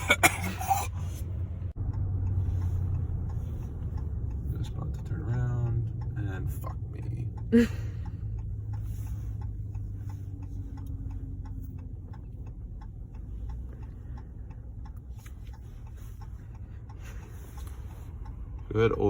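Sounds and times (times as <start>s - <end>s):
engine and road rumble: 0.0s - 19.0s
car turn signal clicking: 1.7s - 19.0s.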